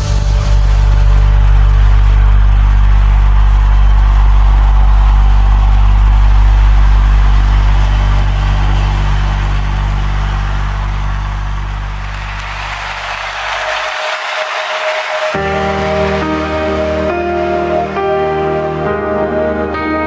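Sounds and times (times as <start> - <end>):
instrumental worship music drone: 0.0 - 20.0.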